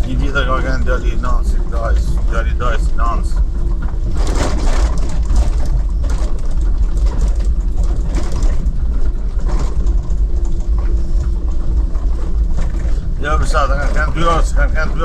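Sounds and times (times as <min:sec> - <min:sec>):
car engine and road rumble: 0:00.0 - 0:15.0
faint constant hum: 0:00.0 - 0:15.0
knocks and rattles in car: 0:00.0 - 0:15.0.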